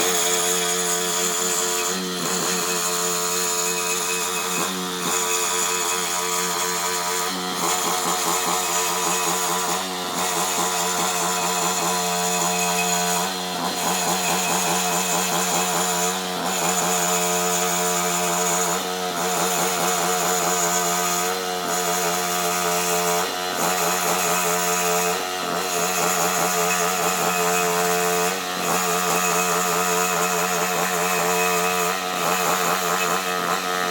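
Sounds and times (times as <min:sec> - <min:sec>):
concrete saw cutting: 0:00.0 - 0:33.9.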